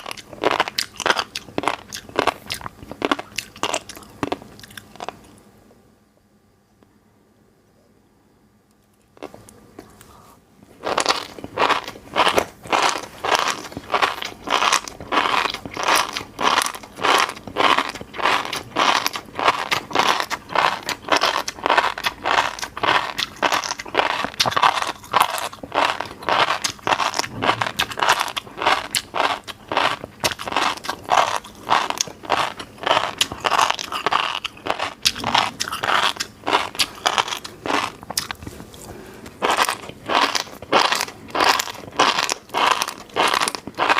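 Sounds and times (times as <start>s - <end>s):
mouth chewing crunchy food: 0.0s - 5.4s, 9.1s - 9.6s, 10.7s - 43.9s.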